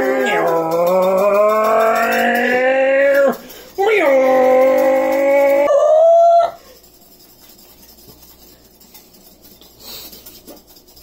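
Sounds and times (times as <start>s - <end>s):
wire whisk beating in bowl: 0.0s - 11.0s.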